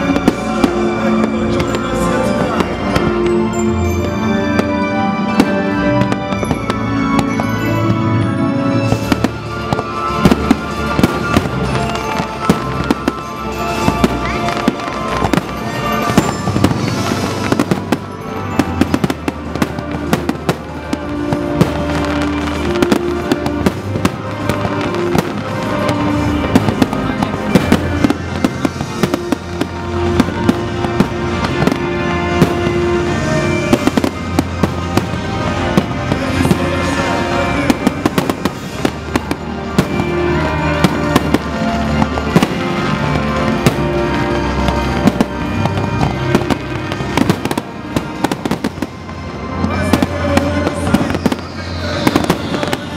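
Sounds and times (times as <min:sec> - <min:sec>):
fireworks bangs: 0:00.0 - 0:52.9
loud music with long notes: 0:00.0 - 0:52.9.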